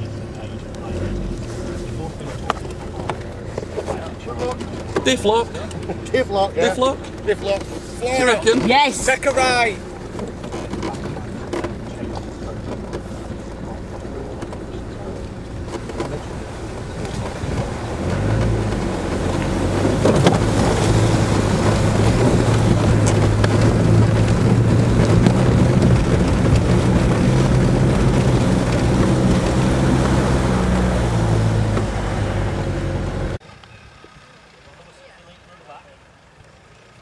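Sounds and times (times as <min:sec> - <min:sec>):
water surging and sloshing: 0:00.0 - 0:33.4
off-road vehicle engine pulling: 0:00.0 - 0:37.0.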